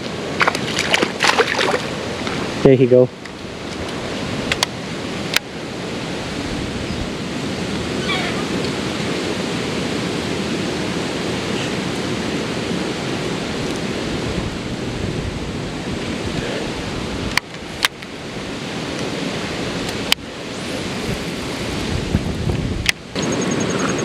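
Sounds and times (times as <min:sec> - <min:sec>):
creek water rushing: 0:00.0 - 0:14.8, 0:15.6 - 0:23.1.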